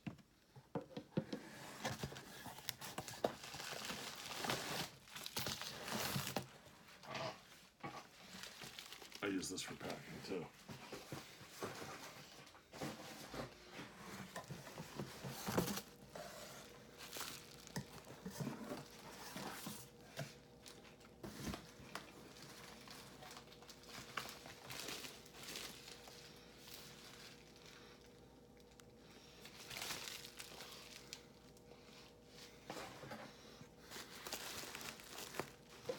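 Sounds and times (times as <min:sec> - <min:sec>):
packing material rustling: 0:01.6 - 0:07.0, 0:08.1 - 0:10.4, 0:11.7 - 0:33.1, 0:33.7 - 0:35.9.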